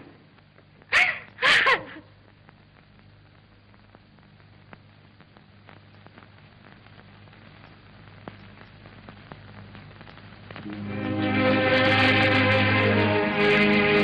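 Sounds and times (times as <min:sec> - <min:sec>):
film crackles and clicks: 0:00.0 - 0:14.0
low hum and hiss: 0:00.0 - 0:14.0.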